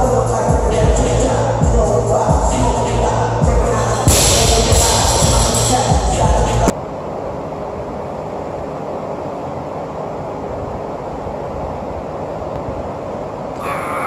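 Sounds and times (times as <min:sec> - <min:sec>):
low rushing gym background noise: 0:00.0 - 0:14.0.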